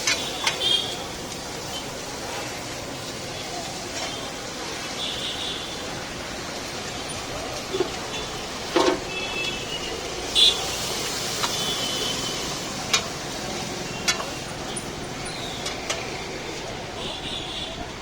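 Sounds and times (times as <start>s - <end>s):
traffic noise: 0.0s - 18.0s.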